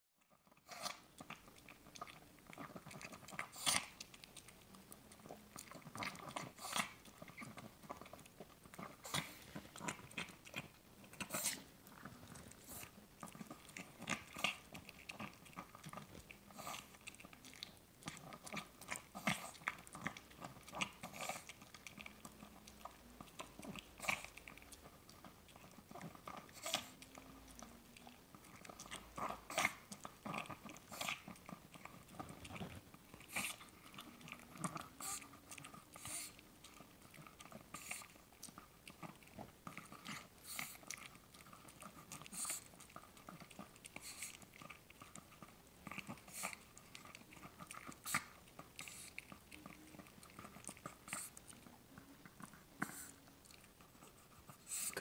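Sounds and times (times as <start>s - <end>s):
dog chewing wetly: 0.2s - 55.0s.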